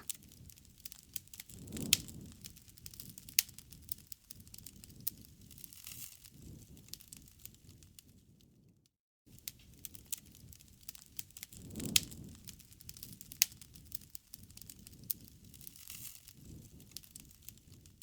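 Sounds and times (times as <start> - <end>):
wood fire crackling and popping: 0.0 - 8.3, 9.3 - 18.0
low rumble of flames: 0.0 - 8.7, 9.3 - 18.0.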